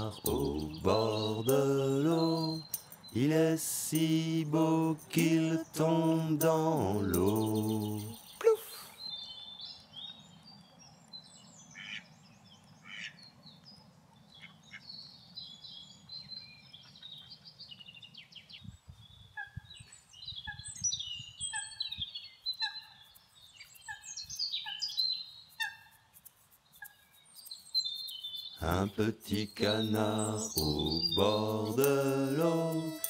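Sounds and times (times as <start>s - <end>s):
birds singing and calling: 0.0s - 25.9s, 26.6s - 33.0s.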